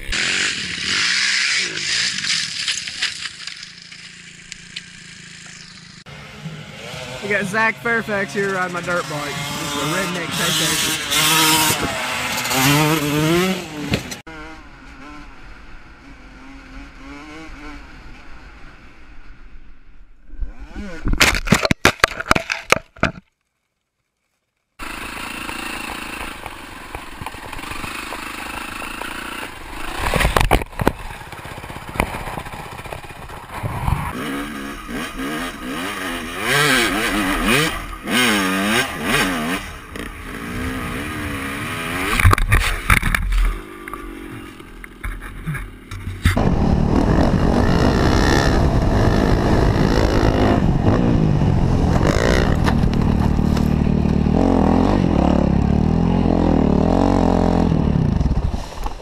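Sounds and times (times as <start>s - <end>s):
dirt bike engines revving: 0.0s - 19.4s, 24.8s - 59.0s.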